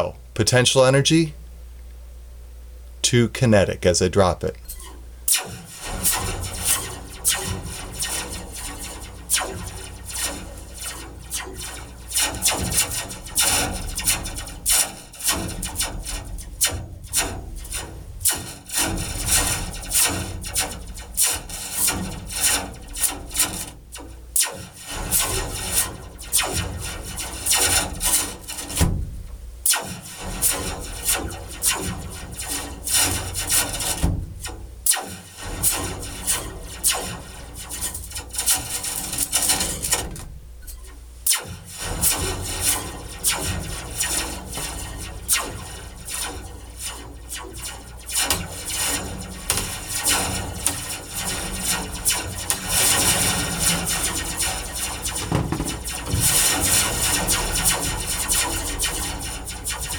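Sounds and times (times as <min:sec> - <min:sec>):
metal slinky coils rattling: 0:04.6 - 0:28.8, 0:29.7 - 0:59.9.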